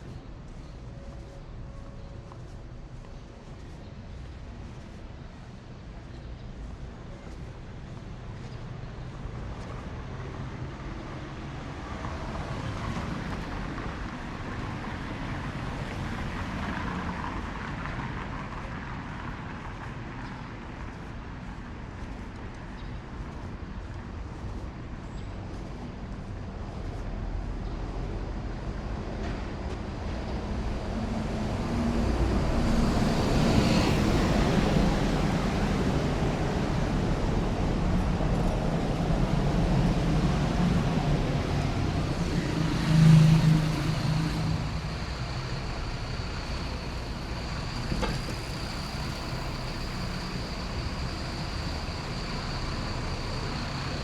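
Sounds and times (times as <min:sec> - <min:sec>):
cars and buses passing: 0:00.0 - 0:54.0.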